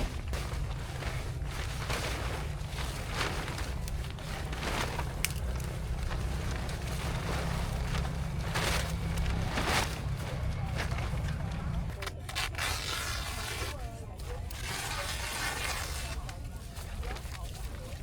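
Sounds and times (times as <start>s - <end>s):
short rustling noises: 0.0s - 18.0s.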